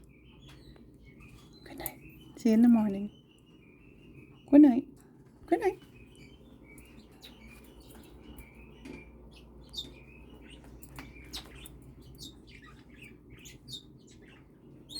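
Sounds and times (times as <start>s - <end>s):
parrots chirping and squeaking: 0.0s - 4.5s, 5.2s - 14.9s.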